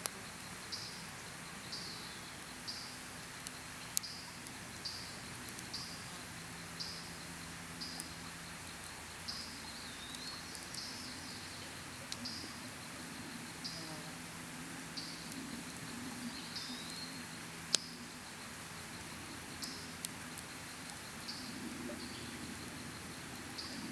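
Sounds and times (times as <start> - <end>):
campfire crackling and popping: 0.0 - 23.9.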